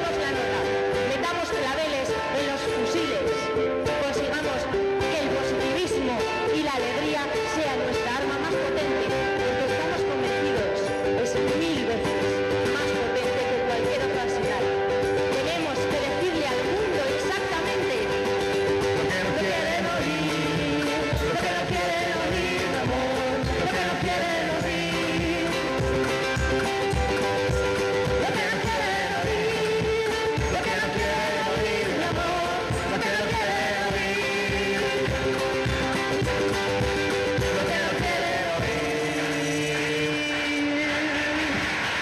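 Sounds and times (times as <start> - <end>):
man and woman singing: 0.0 - 41.7
ukulele strumming: 0.0 - 42.0.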